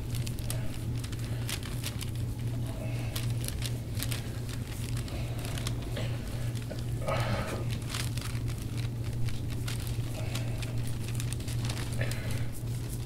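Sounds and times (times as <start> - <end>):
small crackling clicks: 0.0 - 7.0, 7.6 - 13.0
steady low hum: 0.0 - 13.0.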